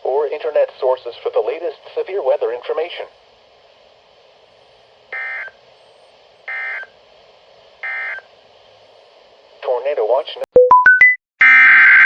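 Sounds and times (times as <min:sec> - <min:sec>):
faint radio hiss: 0:00.0 - 0:10.5.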